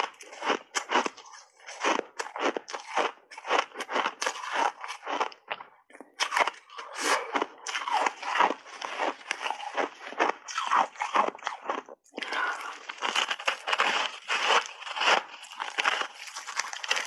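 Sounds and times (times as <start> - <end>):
chewing ice crunches: 0.0 - 17.0.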